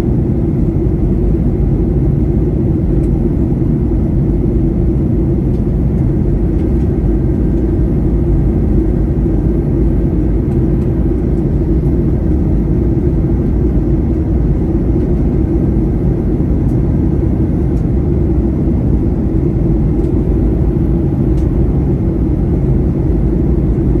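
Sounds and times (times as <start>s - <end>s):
jet airliner cabin rumble: 0.0s - 24.0s.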